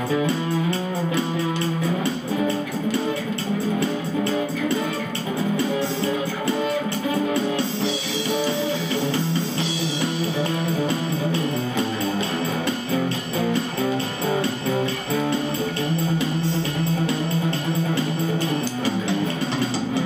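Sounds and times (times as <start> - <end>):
overdriven acoustic guitar melody: 0.0 - 20.0.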